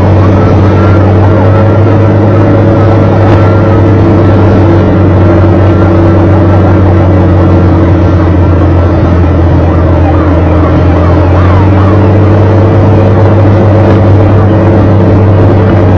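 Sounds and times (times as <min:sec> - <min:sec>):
fire engine sirens yelping: 0:00.0 - 0:15.9
low engine drone: 0:00.0 - 0:15.9.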